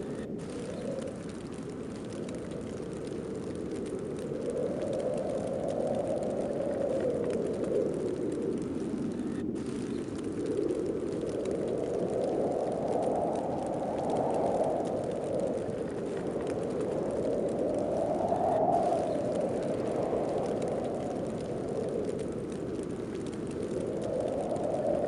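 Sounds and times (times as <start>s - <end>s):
wind blowing in gusts: 0.0s - 25.0s.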